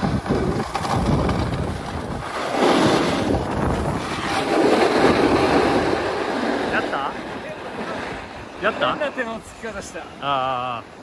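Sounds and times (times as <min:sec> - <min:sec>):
wind buffeting microphone: 0:00.0 - 0:10.0
snowboard sliding on snow: 0:00.0 - 0:10.7.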